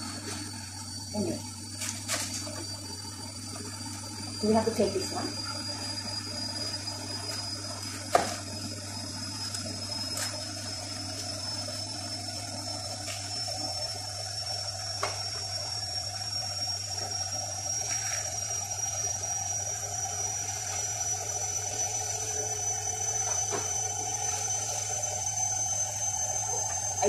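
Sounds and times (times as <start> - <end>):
background hum and hiss: 0.0 - 27.0
faint high whine: 0.0 - 27.0.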